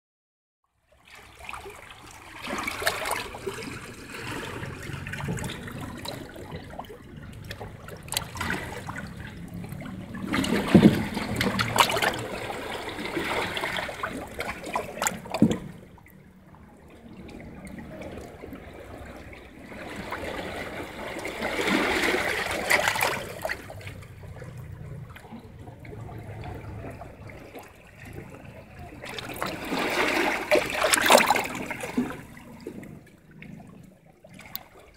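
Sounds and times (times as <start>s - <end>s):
sea water washing over rocks: 1.2s - 16.0s, 16.8s - 24.3s, 25.4s - 33.0s.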